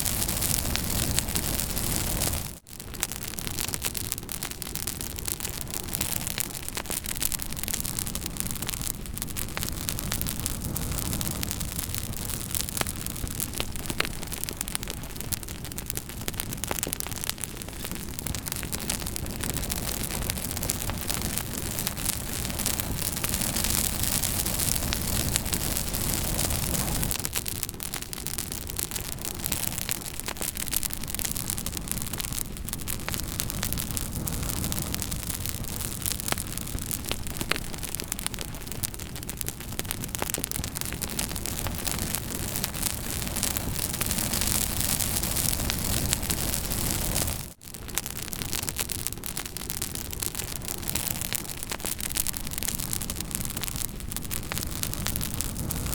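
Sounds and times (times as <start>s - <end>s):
campfire crackling and popping: 0.0s - 55.9s
fire rushing noise: 0.0s - 55.9s.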